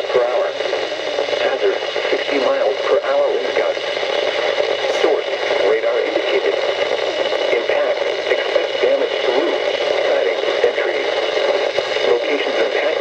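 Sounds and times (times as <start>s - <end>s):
faint broadcast voice: 0.0s - 13.0s
radio static hiss: 0.0s - 13.0s.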